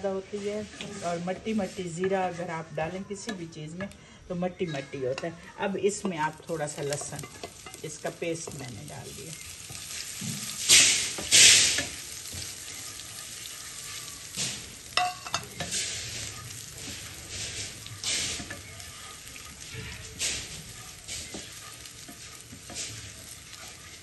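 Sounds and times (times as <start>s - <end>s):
garlic paste sizzling in oil: 0.0s - 3.6s, 4.7s - 24.0s.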